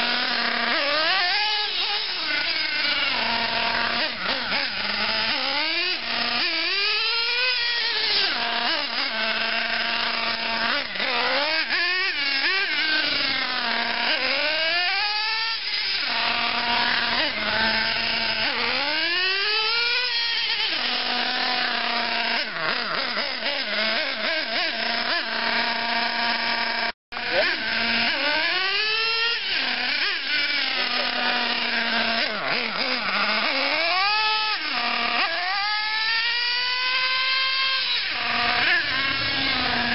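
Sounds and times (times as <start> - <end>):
nitro engine revving: 0.0 - 39.9.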